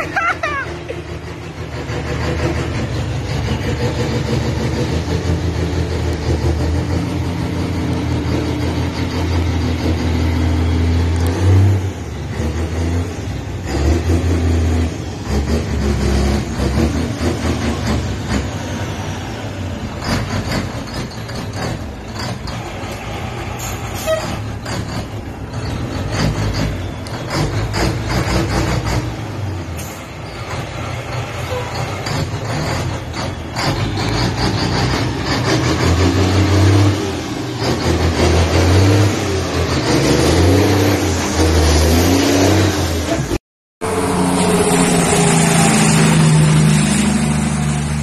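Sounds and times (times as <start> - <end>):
truck engine pulling under load: 0.0 - 48.0.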